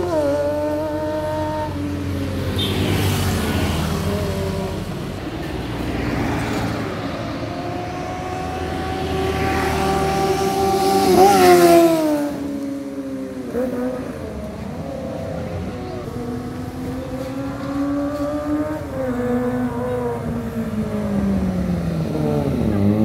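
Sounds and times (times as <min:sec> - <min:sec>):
motorcycle engine revving past: 0:00.0 - 0:23.0.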